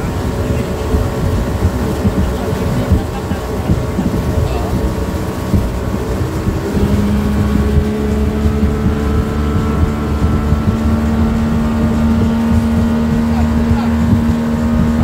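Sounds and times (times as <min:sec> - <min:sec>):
motorboat engine running: 0:00.0 - 0:15.0
water rushing along hull: 0:00.0 - 0:15.0.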